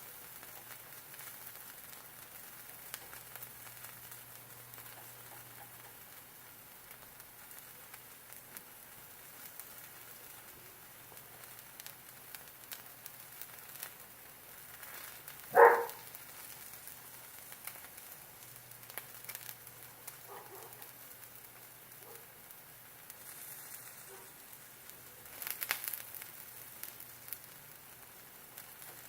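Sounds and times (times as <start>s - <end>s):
food sizzling in a pan: 0.0s - 29.0s
small crackles and pops: 0.0s - 29.0s.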